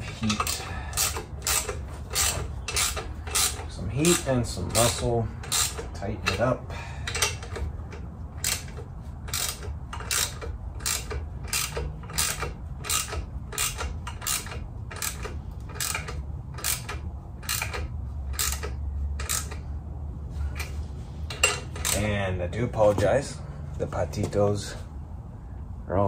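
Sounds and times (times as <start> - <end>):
ratchet wrench clicking: 0.0 - 19.7, 20.5 - 22.1
low steady hum: 0.0 - 26.0.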